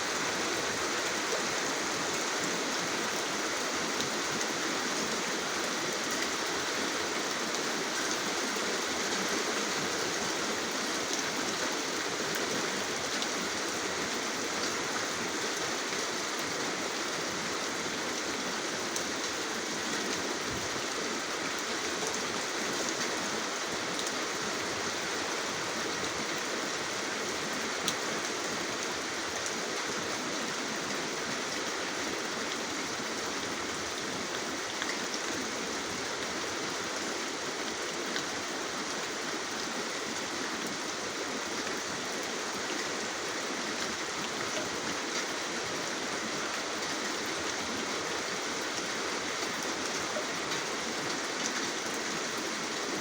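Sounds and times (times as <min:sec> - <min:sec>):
rain falling: 0:00.0 - 0:53.0.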